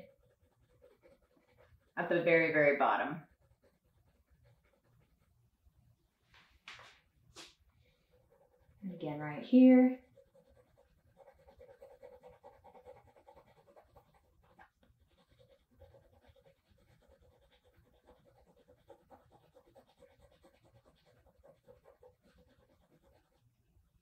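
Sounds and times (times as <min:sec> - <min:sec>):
pencil scratching on paper: 0:00.0 - 0:05.3, 0:08.0 - 0:23.5
faint steady hum: 0:00.0 - 0:24.0.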